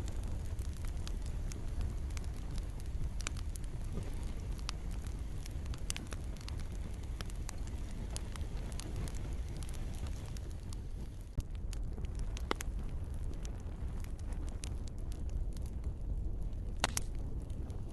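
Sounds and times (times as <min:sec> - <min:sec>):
soft rain hiss: 0:00.0 - 0:15.9
campfire crackling: 0:00.0 - 0:17.9.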